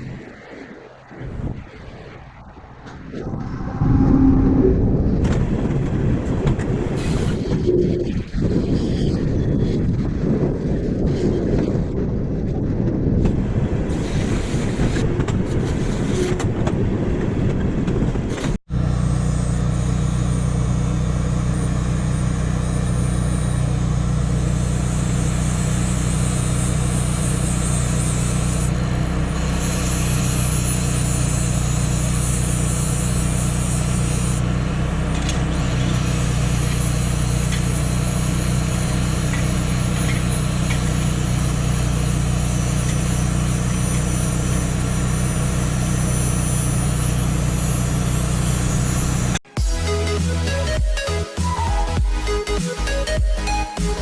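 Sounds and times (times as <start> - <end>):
engine running steadily: 2.4 - 50.8.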